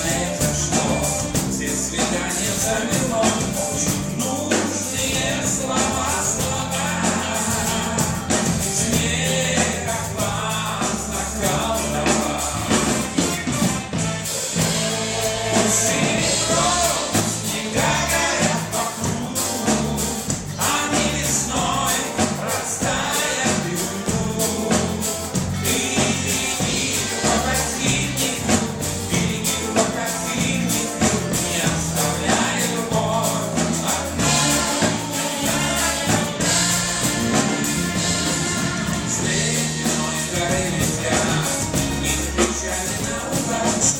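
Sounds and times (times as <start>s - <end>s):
live pop band playing: 0.0s - 43.9s.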